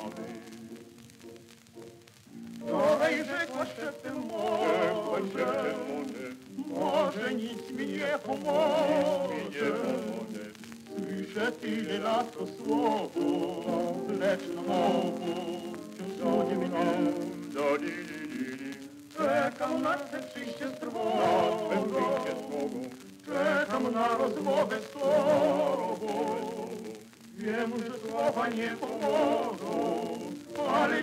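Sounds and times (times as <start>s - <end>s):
male vocal ensemble singing: 0.0s - 0.6s, 2.6s - 31.0s.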